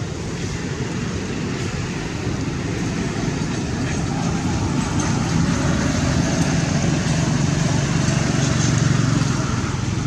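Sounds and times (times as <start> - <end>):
vehicle engine low rumble: 0.0 - 10.0.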